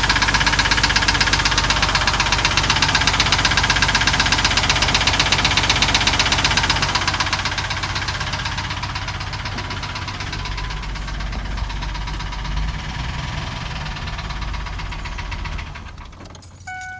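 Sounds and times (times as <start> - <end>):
car engine knocking tick: 0.0 - 16.4.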